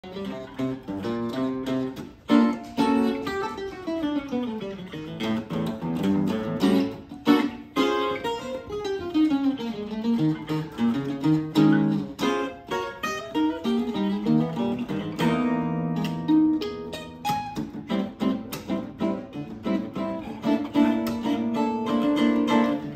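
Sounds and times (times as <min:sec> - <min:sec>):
guitar duet: 0:00.0 - 0:22.9.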